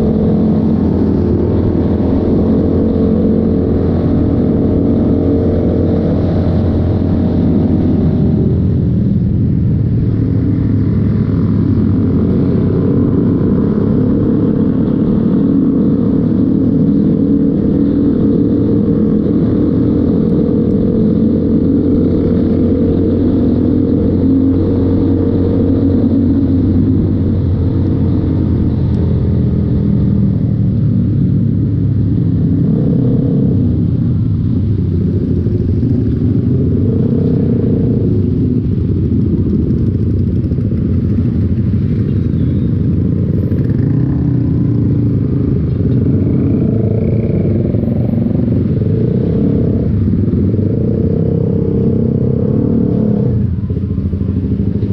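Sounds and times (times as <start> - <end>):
motorcycle engine running: 0.0 - 54.9
road and wind noise: 0.0 - 54.9.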